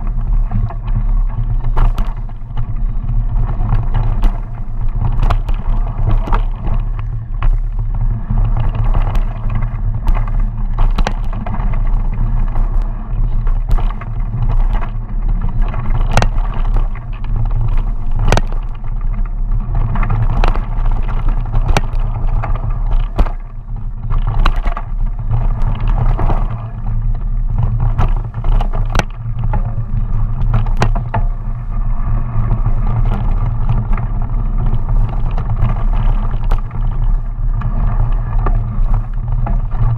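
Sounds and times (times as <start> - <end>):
bike clacking and rattling: 0.0 - 39.9
wind and tyre rumble: 0.0 - 39.9.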